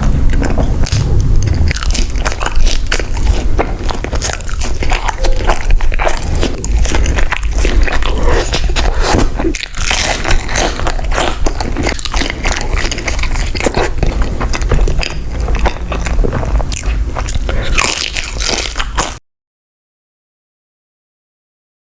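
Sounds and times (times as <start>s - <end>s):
crunchy food chewing: 0.0s - 19.2s.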